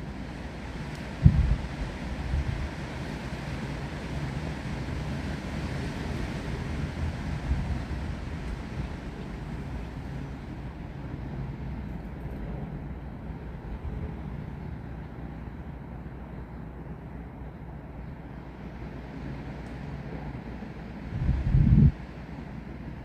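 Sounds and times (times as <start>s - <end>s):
wind gusts buffeting microphone: 0.0s - 15.8s, 19.2s - 23.0s
wind blowing through trees: 0.0s - 17.2s, 17.9s - 23.0s.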